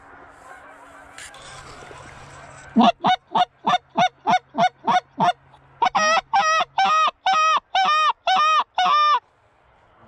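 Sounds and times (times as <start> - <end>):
goose call clucks and honks: 0.4 - 9.2.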